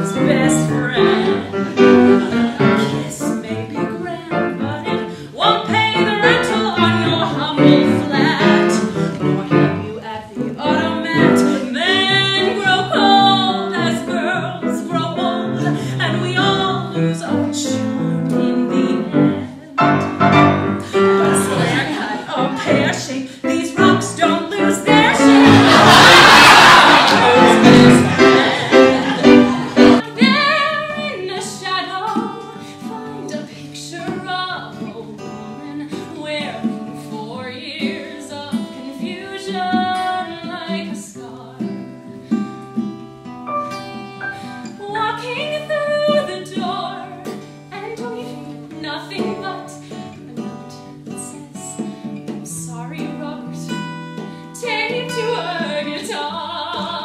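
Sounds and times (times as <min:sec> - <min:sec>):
woman singing: 0:00.0 - 0:41.9, 0:44.5 - 0:57.0
instrumental accompaniment: 0:00.0 - 0:57.0.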